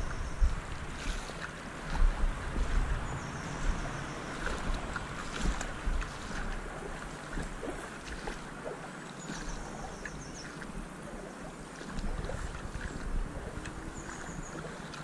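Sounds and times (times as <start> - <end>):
water splashing as someone wades: 0.0 - 15.0
wind rumbling on microphone: 0.0 - 15.0.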